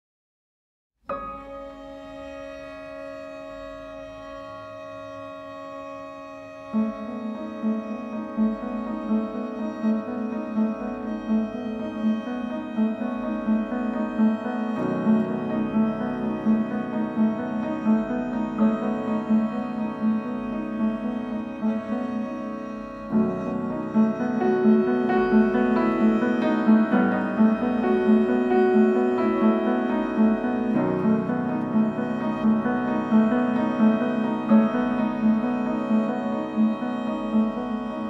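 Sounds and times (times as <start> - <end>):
instrumental music with sustained chords: 1.1 - 38.0.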